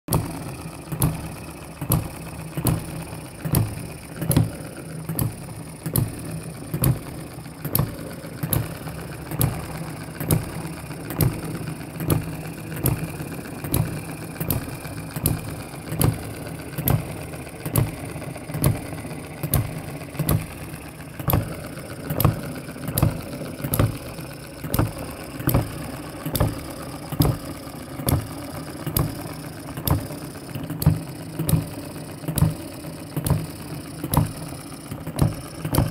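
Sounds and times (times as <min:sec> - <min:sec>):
engine mechanism clatter: 0:00.1 - 0:35.9
small engine popping: 0:00.1 - 0:35.9.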